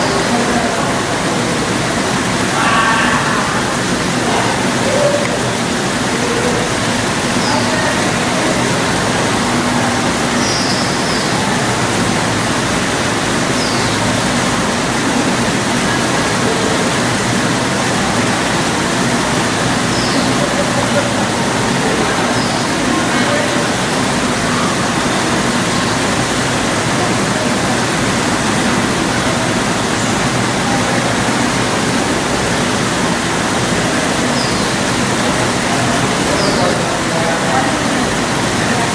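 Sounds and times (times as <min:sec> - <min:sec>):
waterfall splashing over rocks: 0:00.0 - 0:38.9.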